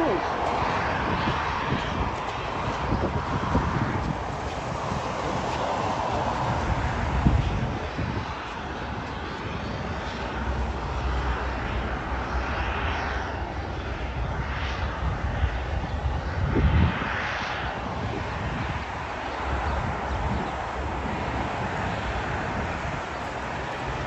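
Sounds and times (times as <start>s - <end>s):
jet engines rumbling roar: 0.0s - 24.0s.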